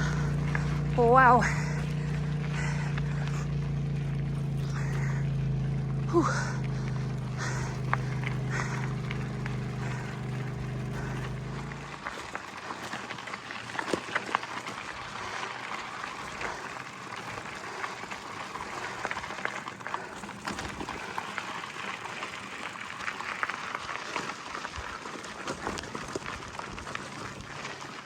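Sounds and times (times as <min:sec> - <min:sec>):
bicycle tyres crunching on gravel: 0:00.0 - 0:28.0.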